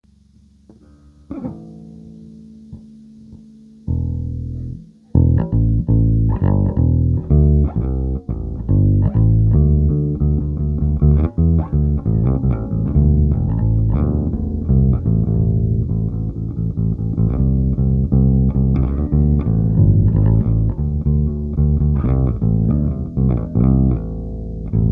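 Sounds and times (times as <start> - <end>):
bass guitar plucked notes: 0.0 - 24.9.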